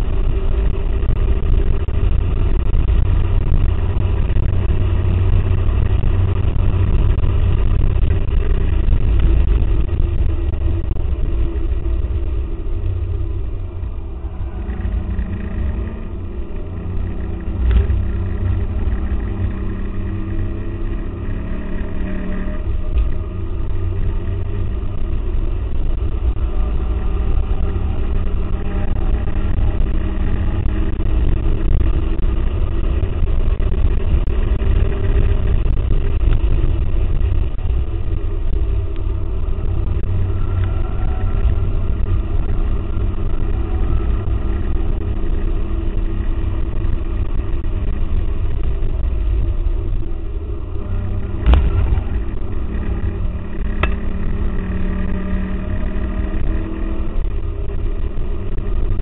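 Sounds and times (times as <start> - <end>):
muffled car engine rumble: 0.0 - 59.0
wind and road noise: 0.0 - 59.0.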